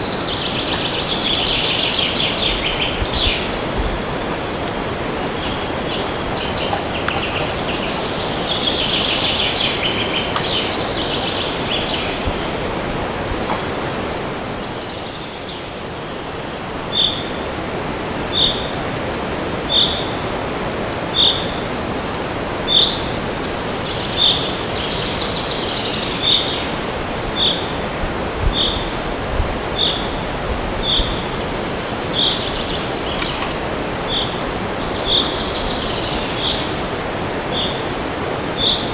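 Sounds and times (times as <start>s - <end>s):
birds twittering: 0.0s - 38.9s
wind through trees: 0.0s - 38.9s.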